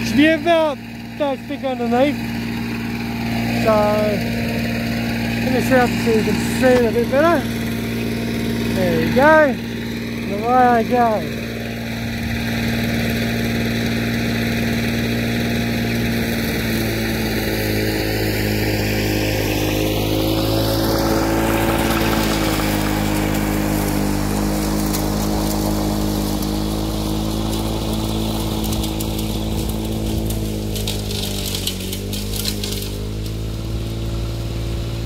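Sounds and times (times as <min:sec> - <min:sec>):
lawnmower cutting thick grass: 0:00.0 - 0:35.0.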